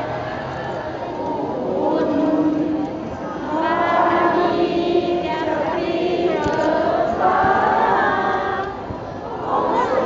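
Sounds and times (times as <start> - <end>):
crowd singing together: 0.0 - 10.0.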